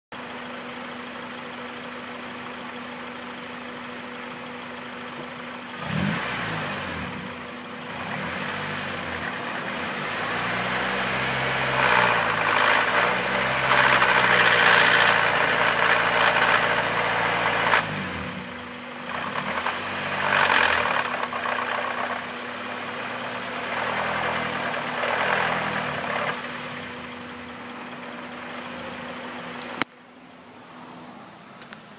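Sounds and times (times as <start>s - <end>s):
car engine idling and revving: 0.2s - 31.9s.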